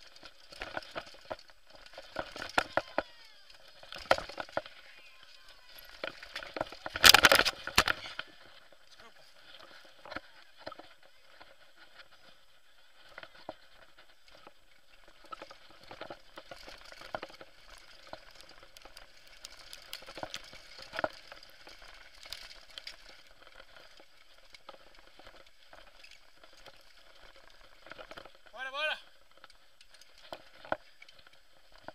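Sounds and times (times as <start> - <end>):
bike rattling over stony trail: 0.0 - 31.9.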